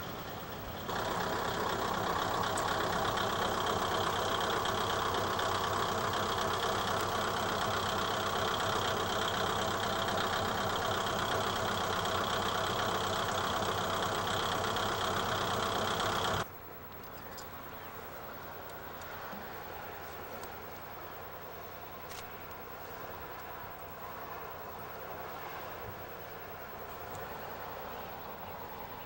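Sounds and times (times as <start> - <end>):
railcar engine droning: 0.0 - 29.0.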